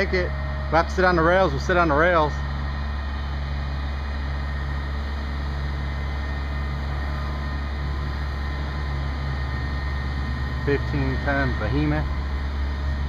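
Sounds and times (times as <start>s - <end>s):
crane diesel engine droning: 0.0s - 13.0s.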